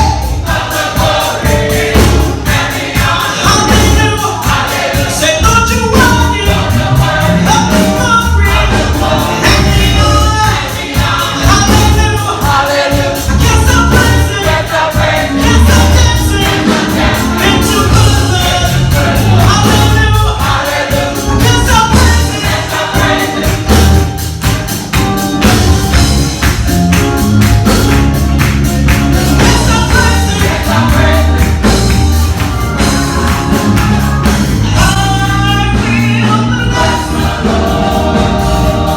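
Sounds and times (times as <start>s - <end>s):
choir singing: 0.0s - 24.3s, 28.7s - 38.9s
band with bass: 0.0s - 38.9s
tambourine beat: 0.0s - 38.9s.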